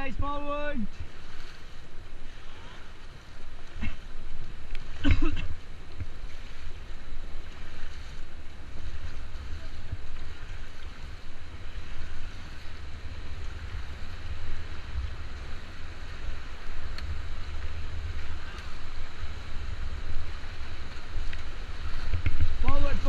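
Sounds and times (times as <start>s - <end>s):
river water rushing: 0.0s - 23.0s
wind buffeting microphone: 0.0s - 23.0s.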